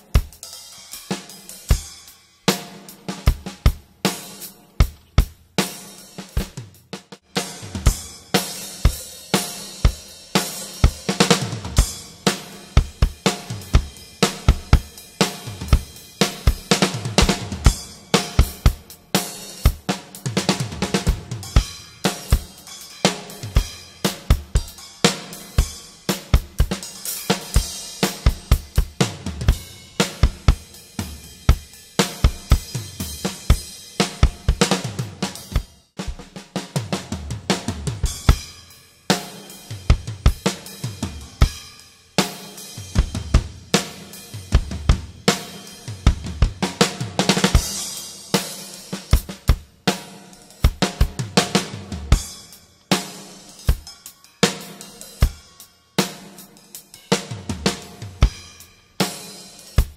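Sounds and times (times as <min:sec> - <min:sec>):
ringing cymbals: 0:00.0 - 0:05.0, 0:07.4 - 0:35.8, 0:38.0 - 0:59.9
drum kit strokes: 0:00.0 - 0:59.9.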